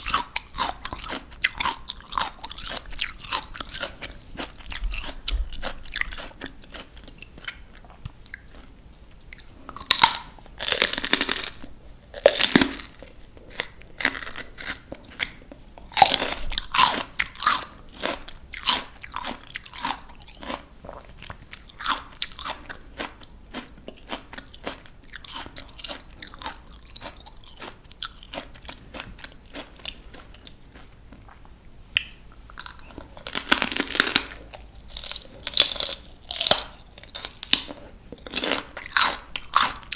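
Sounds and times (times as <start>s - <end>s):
crunching bites of vegetables: 0.0s - 39.9s
wet crackly chewing: 0.0s - 39.9s.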